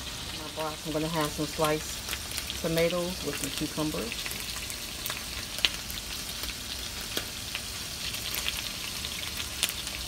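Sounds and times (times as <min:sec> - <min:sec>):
sausage sizzling in a skillet: 0:00.0 - 0:10.0.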